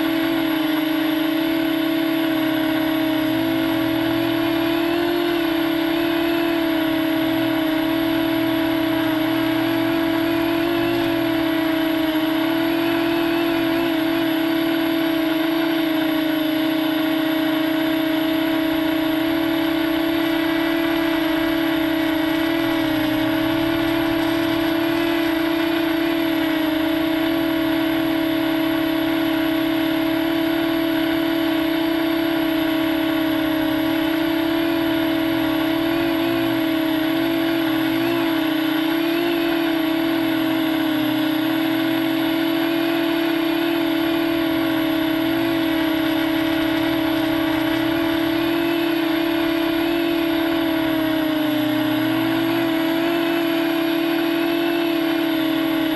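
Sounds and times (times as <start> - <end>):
quadcopter motors buzzing: 0.0 - 55.9.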